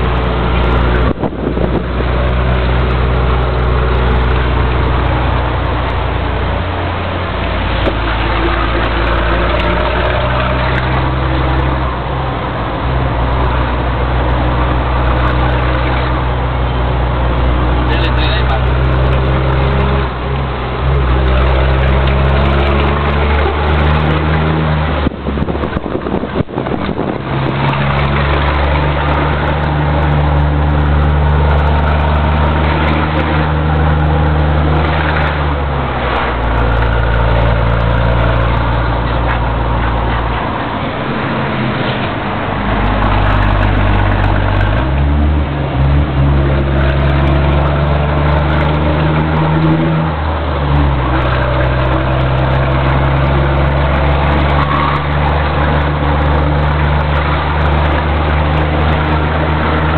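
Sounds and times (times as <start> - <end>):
diesel truck engine under load: 0.0 - 59.9
engine knocks: 0.0 - 59.9.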